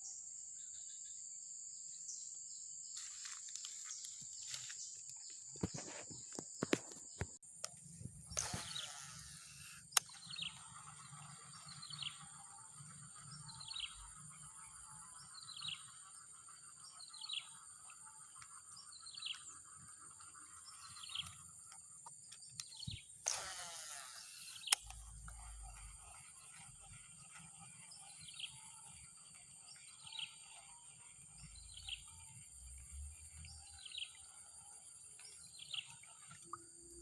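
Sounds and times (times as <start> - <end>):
insects buzzing: 0.0 - 37.0.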